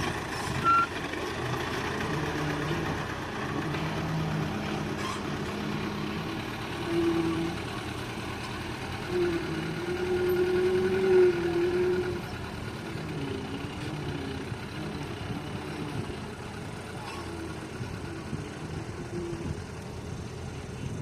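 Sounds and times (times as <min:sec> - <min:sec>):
excavator engine running: 0:00.0 - 0:21.0
wavering hydraulic whine: 0:00.0 - 0:21.0.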